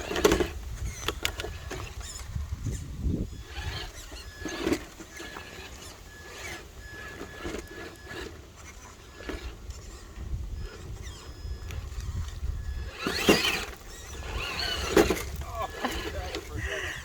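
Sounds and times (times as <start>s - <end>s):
electric motor and gears whining: 0.0s - 17.0s
tires crunching on rock: 0.0s - 17.0s.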